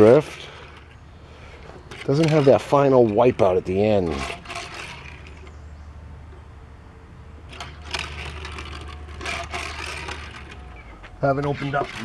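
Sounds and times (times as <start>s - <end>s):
short scraping knocks: 0.0s - 5.6s, 7.4s - 12.0s
toy truck rolling on wood: 0.0s - 5.6s, 7.5s - 12.0s.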